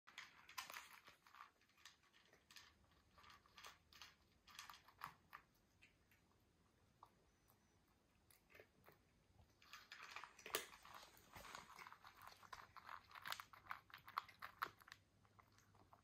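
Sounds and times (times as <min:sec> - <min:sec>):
cats crunching food: 0:00.1 - 0:16.0.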